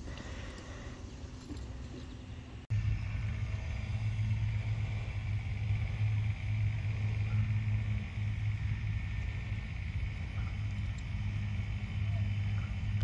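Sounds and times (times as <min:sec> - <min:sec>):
golf cart motor humming: 0:00.0 - 0:13.0
faint high whine: 0:00.1 - 0:13.0.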